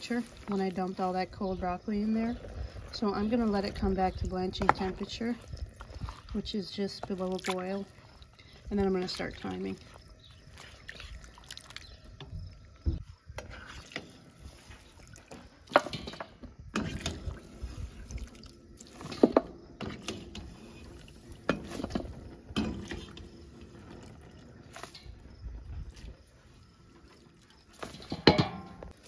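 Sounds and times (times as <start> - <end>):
water sloshing and dripping: 0.0 - 29.0.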